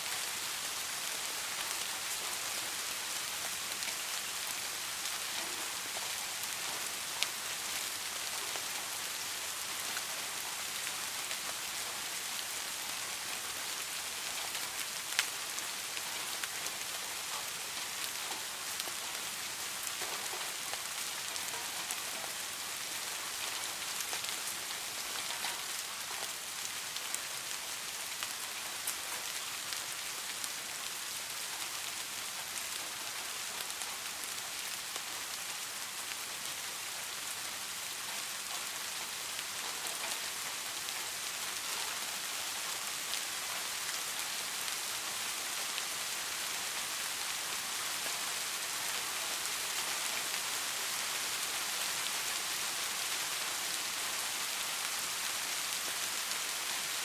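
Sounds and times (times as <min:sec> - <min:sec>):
raindrops pattering: 0:00.0 - 0:57.0
steady rainfall: 0:00.0 - 0:57.0.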